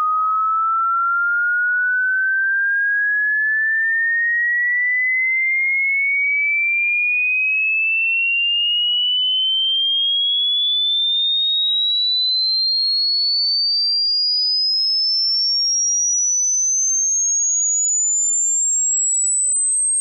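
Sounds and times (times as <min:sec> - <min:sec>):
rising sine tone: 0:00.0 - 0:05.6, 0:08.4 - 0:20.0.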